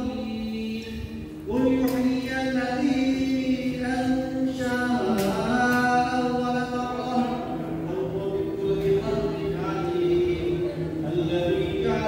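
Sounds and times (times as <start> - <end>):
person chanting: 0.0 - 12.0.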